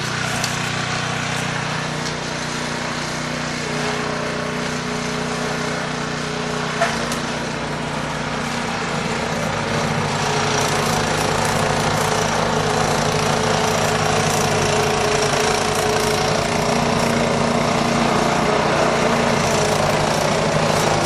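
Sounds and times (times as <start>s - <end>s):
snow-clearing machine engine: 0.0s - 21.0s.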